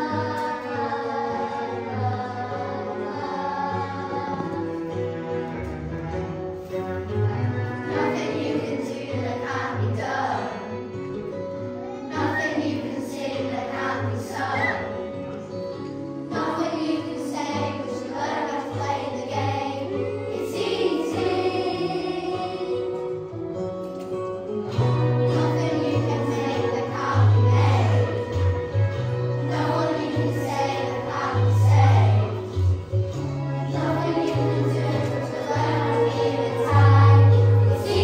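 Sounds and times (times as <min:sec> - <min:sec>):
children singing: 0:00.0 - 0:05.8, 0:07.6 - 0:11.2, 0:11.8 - 0:15.5, 0:16.2 - 0:23.3, 0:24.8 - 0:38.0
instrumental accompaniment with bass: 0:00.0 - 0:38.0.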